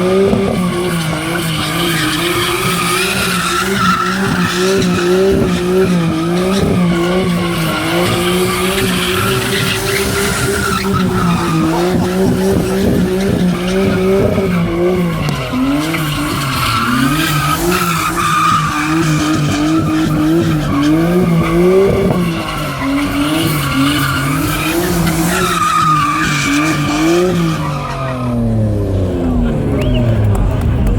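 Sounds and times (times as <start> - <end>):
engine whine: 0.0 - 30.9
van engine revving: 0.0 - 30.9.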